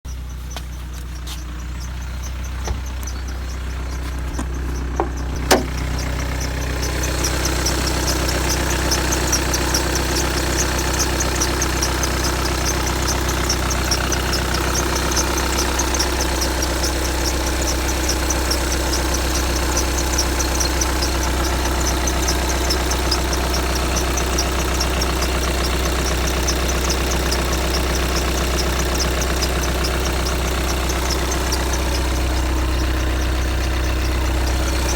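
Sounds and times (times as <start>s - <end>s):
diesel engine idling: 0.1s - 34.9s
rapid high-pitched squeak: 0.1s - 34.9s.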